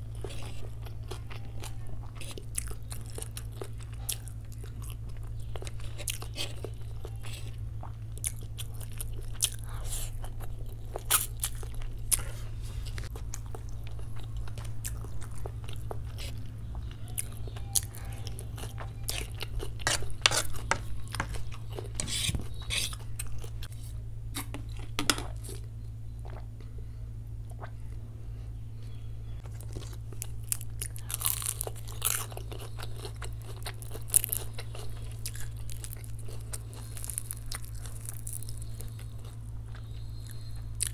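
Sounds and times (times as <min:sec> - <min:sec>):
chewing noodles: 0:00.0 - 0:26.5, 0:29.4 - 0:40.9
low electrical hum: 0:00.0 - 0:40.9.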